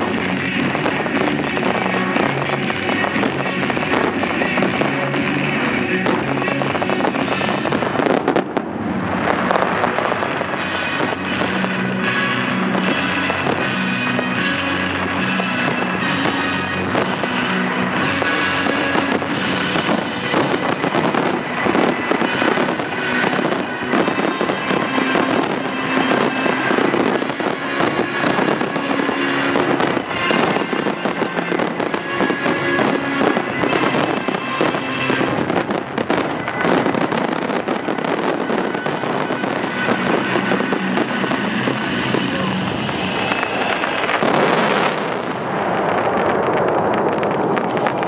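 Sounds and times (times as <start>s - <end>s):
fireworks bangs and crackles: 0.0s - 48.0s
music: 0.0s - 48.0s.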